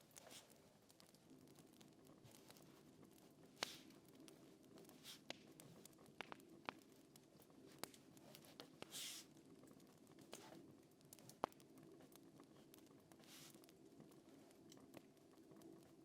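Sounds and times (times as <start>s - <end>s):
faint clicks and ticks: 0.0s - 16.0s
low steady background noise: 0.0s - 16.0s
soft rustle: 0.0s - 16.0s.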